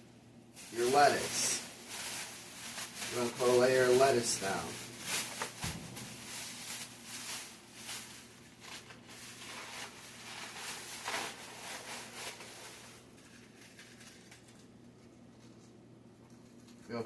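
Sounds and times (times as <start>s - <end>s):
lettuce leaves rustling: 0.6s - 14.8s.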